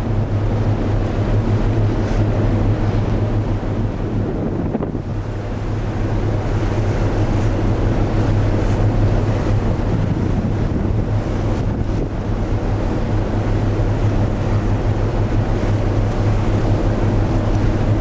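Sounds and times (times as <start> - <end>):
rush of the sea: 0.0 - 18.0
ship engine hum: 0.0 - 18.0
wind buffeting microphone: 0.0 - 18.0.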